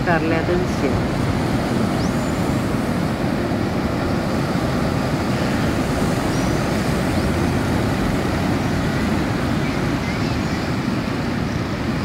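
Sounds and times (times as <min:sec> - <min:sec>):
ocean waves washing: 0:00.0 - 0:12.0.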